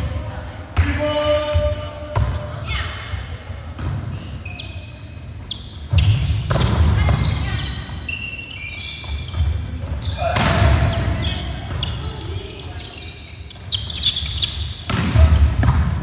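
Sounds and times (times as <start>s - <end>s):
sneakers squeaking on wooden court: 1.2s - 16.0s.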